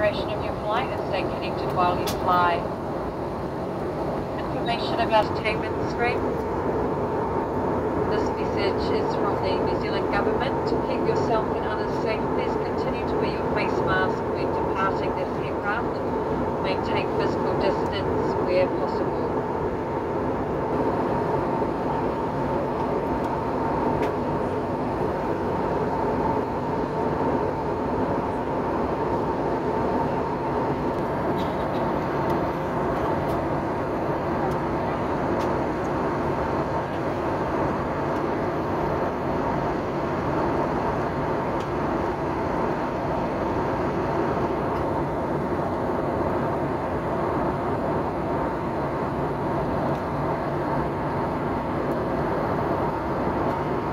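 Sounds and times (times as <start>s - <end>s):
airliner cabin rumble: 0.0s - 53.9s
thin steady whine: 0.0s - 53.9s.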